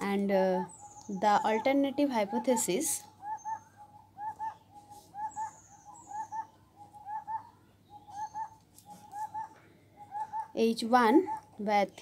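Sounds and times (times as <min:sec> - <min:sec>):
faint high bird chirps: 0:00.0 - 0:12.0
bird hooting: 0:00.4 - 0:11.6.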